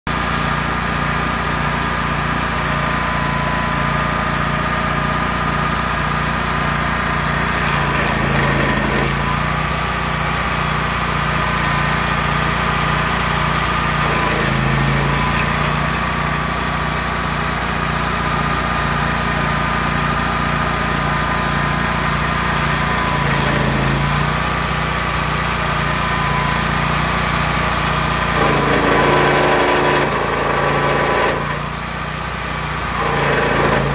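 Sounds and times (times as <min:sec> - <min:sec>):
stump grinder engine running: 0:00.1 - 0:33.9.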